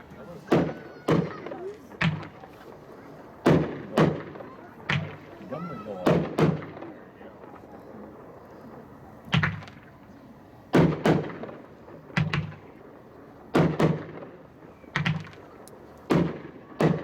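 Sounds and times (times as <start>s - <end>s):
firework bangs: 0.0s - 10.0s, 10.7s - 17.0s.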